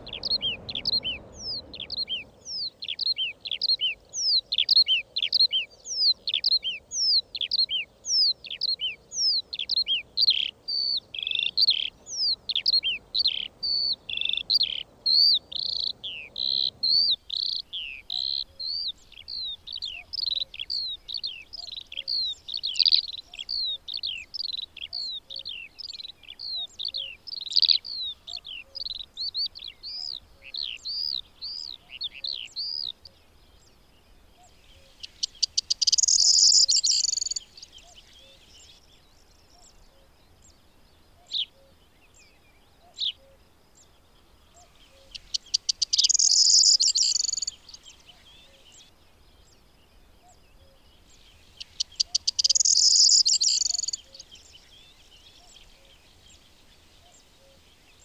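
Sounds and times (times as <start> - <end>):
skylark singing: 0.0 - 38.9, 43.9 - 57.2
faint low hiss: 0.0 - 58.0.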